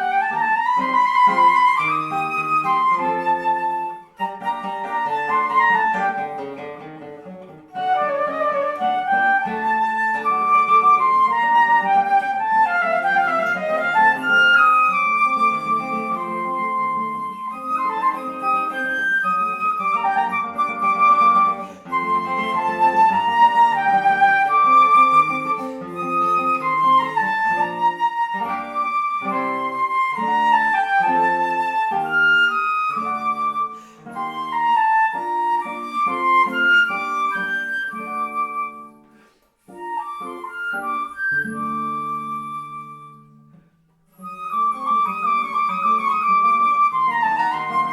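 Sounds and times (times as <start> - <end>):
flute melody: 0.0 - 47.9
plucked guitar accompaniment: 0.0 - 47.9.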